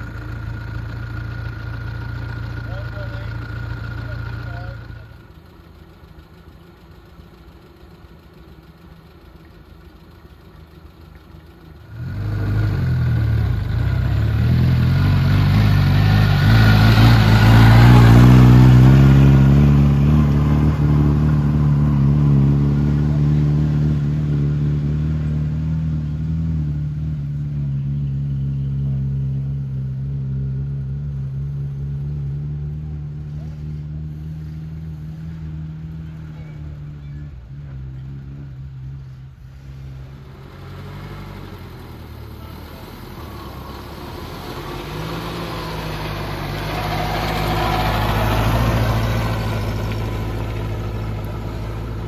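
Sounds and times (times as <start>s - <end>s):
small car engine accelerating: 0.0s - 52.0s.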